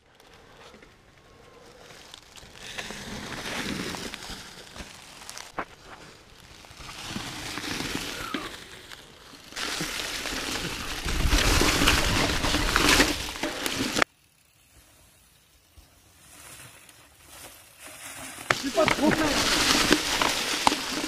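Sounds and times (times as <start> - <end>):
bike tyres crackling through leaves: 0.0 - 21.0
wind: 0.0 - 21.0
bike rattle: 1.8 - 14.1, 15.8 - 21.0.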